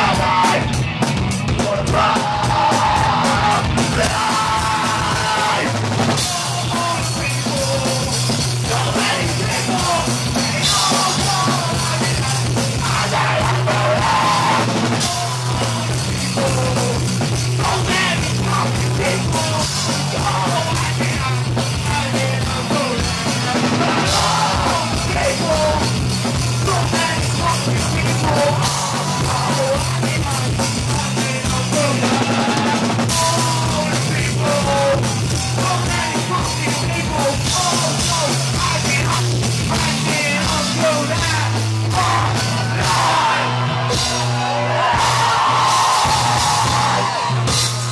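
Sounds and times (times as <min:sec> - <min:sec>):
singer shouting vocals: 0:00.0 - 0:00.8, 0:01.6 - 0:17.0, 0:17.6 - 0:26.0, 0:26.6 - 0:47.9
punk rock band playing: 0:00.0 - 0:47.9.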